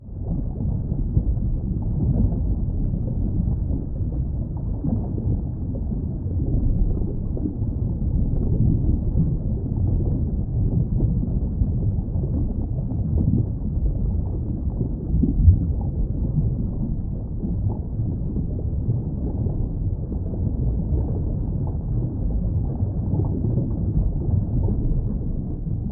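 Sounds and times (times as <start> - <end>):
muffled underwater rumble: 0.0 - 25.9.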